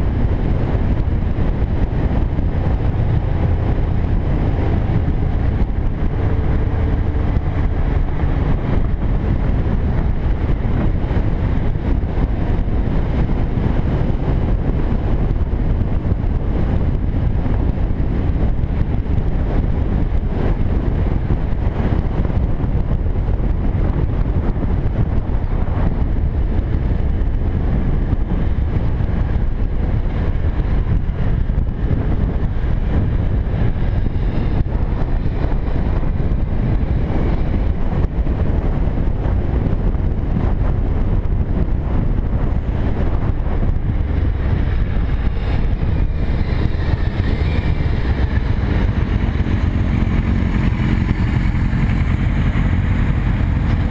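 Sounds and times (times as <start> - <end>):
motorcycle engine drone: 0.0 - 53.9
wind rush on microphone: 0.0 - 53.9.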